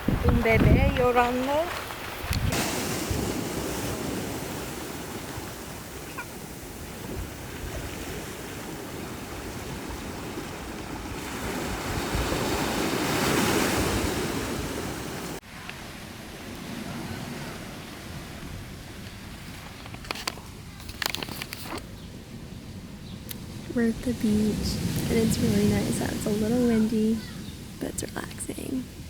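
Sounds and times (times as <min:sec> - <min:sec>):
ocean waves washing on shore: 0:00.0 - 0:29.0
wind on microphone: 0:00.0 - 0:29.0.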